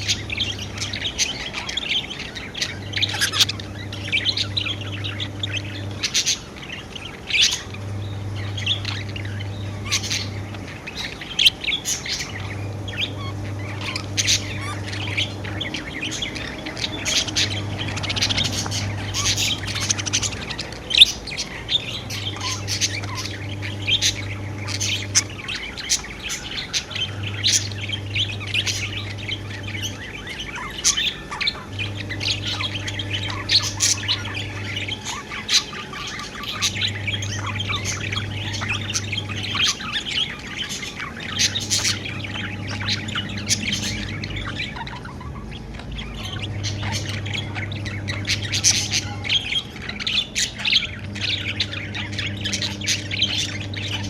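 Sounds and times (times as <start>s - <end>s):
bird squawks: 0.0s - 54.0s
budgerigars chirping and chattering: 0.0s - 54.0s
low hum: 0.0s - 54.0s.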